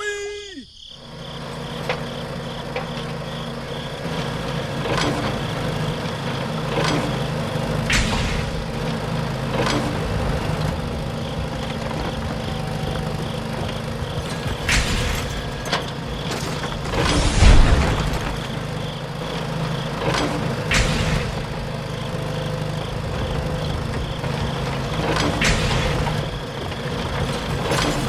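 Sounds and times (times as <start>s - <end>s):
motor running steadily: 1.2s - 17.0s, 17.7s - 28.0s.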